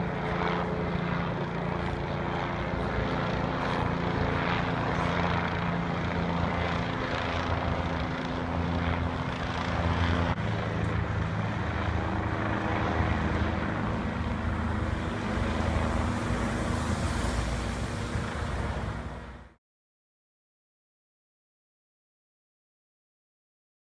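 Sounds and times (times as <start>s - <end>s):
helicopter rotor and engine drone: 0.0s - 19.6s.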